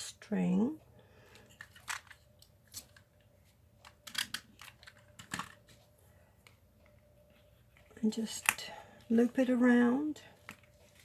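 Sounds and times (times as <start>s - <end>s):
hands handling craft supplies: 1.3s - 11.0s.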